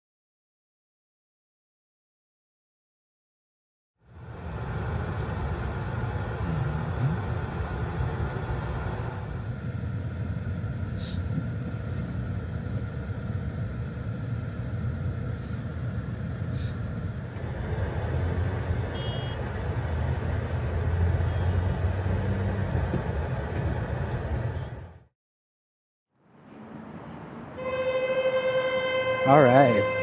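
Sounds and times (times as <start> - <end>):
low rumble of road vehicles: 4.0 - 25.1, 26.1 - 30.0.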